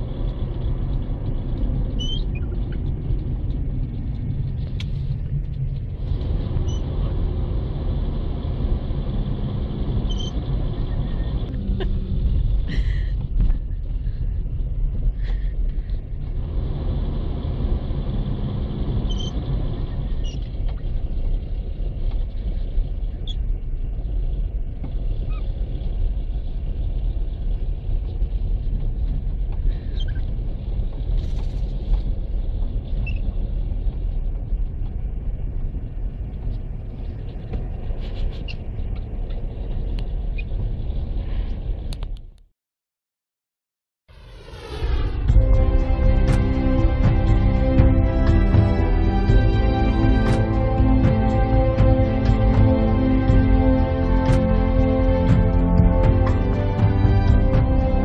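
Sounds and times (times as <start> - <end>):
road rumble inside car: 0.0 - 42.5, 44.1 - 58.0.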